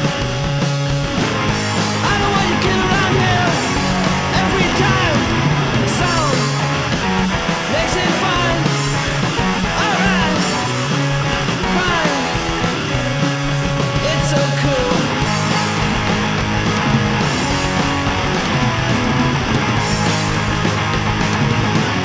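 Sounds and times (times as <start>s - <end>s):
bass line: 0.0s - 22.0s
rock band playing: 0.0s - 22.0s.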